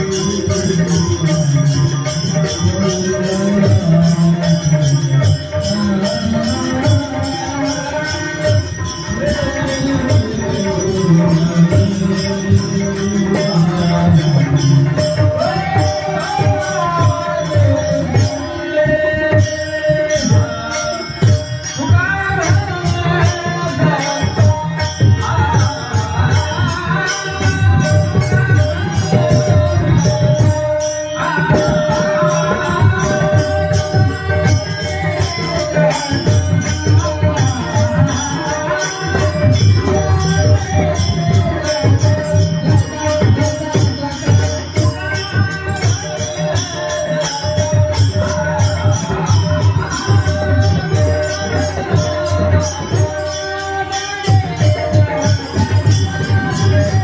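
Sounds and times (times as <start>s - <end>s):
hand cymbals: 0.0s - 57.0s
man singing: 0.0s - 57.0s.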